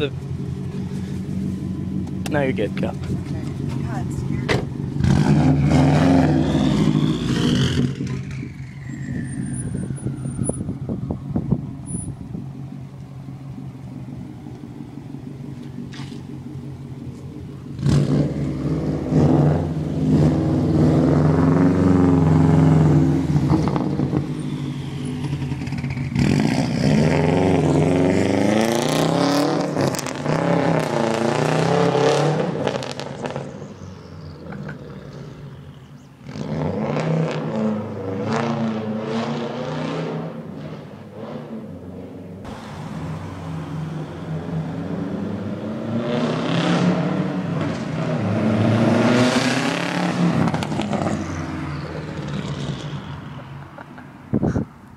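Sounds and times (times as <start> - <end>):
car engine revving while driving off: 0.0 - 54.0.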